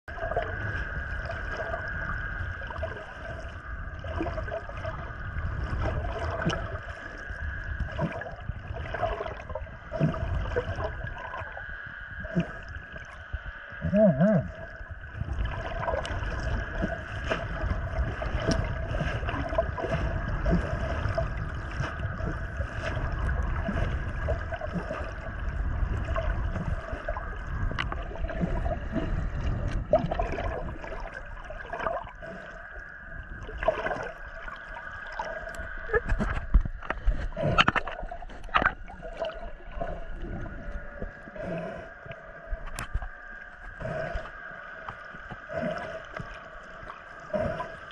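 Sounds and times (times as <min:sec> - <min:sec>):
low rumble: 0:00.0 - 0:47.9
water gurgling underwater: 0:00.0 - 0:47.9
steady hum: 0:00.1 - 0:47.9.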